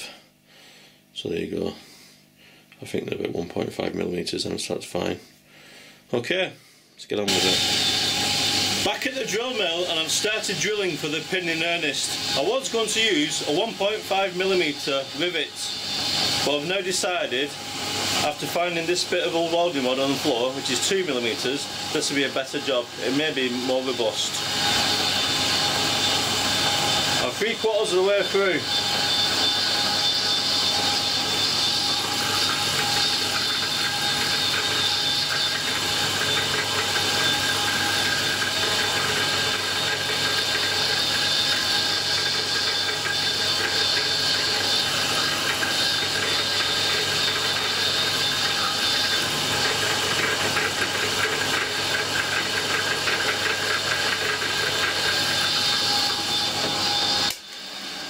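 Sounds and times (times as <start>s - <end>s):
drill mill motor whine: 7.3s - 58.0s.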